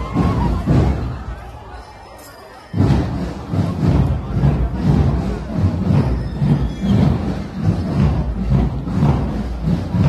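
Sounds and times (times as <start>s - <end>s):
marching drum band: 0.0s - 2.0s, 2.7s - 10.0s.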